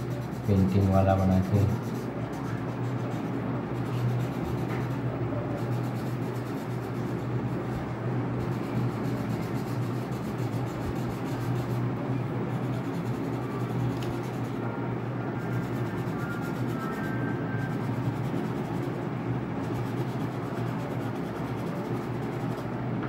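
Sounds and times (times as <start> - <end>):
crayon rubbing on paper: 0.0 - 11.9, 12.5 - 14.6, 15.4 - 22.7.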